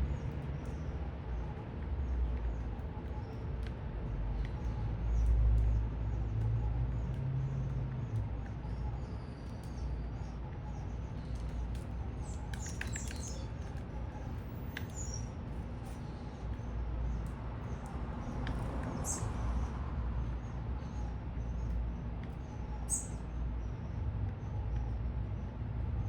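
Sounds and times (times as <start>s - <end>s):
low city rumble: 0.0s - 26.0s
small birds chirping: 0.0s - 26.0s.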